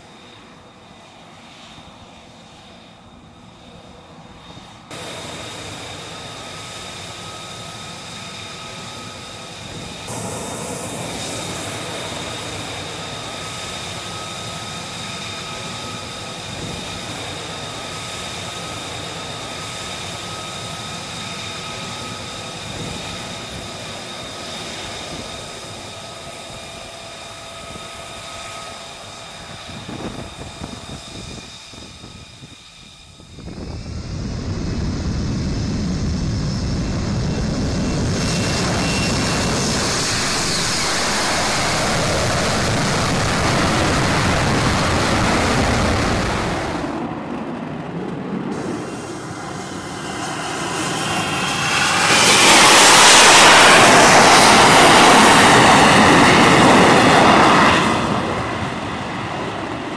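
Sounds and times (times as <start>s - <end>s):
high steady whine: 0.0s - 58.5s
jet engine running: 0.0s - 59.9s.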